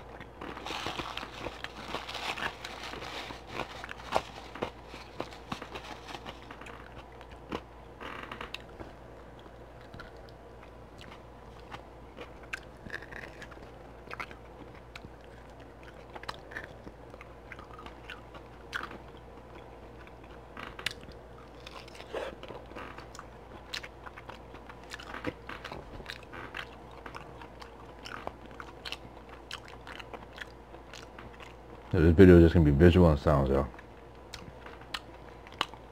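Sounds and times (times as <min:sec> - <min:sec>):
person chewing: 0:00.0 - 0:08.7, 0:09.4 - 0:31.6, 0:33.8 - 0:35.9.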